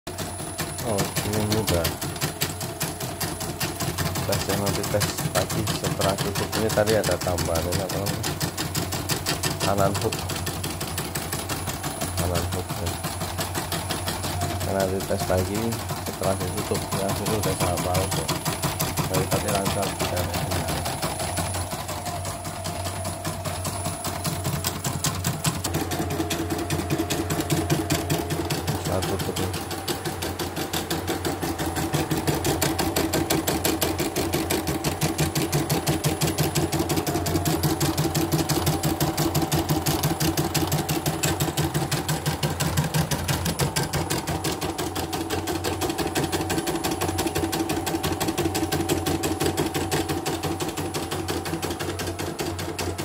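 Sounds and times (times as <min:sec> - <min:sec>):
embroidery machine stitching: 0:00.1 - 0:53.0.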